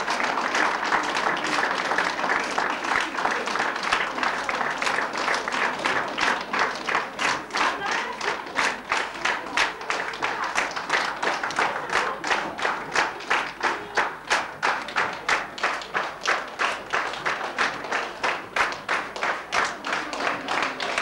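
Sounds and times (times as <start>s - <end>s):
people clapping in unison: 0.0s - 21.0s.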